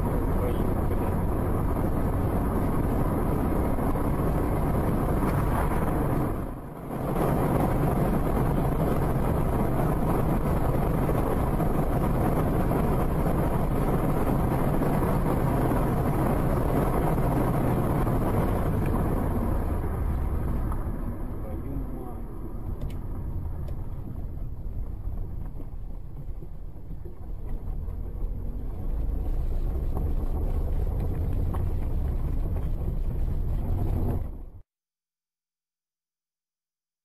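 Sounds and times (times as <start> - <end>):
wind noise: 0.0 - 21.3, 22.4 - 34.6
car engine running: 0.0 - 34.6
road noise: 0.0 - 34.6.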